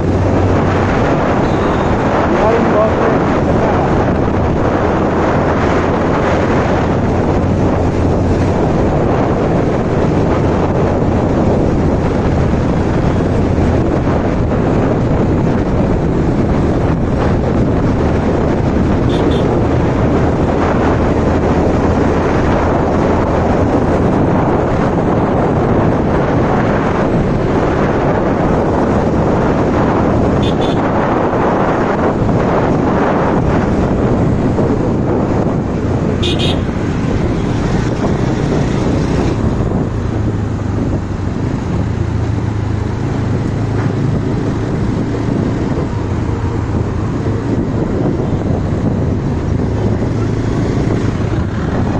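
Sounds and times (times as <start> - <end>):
motorbike engine humming: 0.0 - 51.9
road traffic: 0.0 - 51.9
wind buffeting on microphone: 0.0 - 51.9.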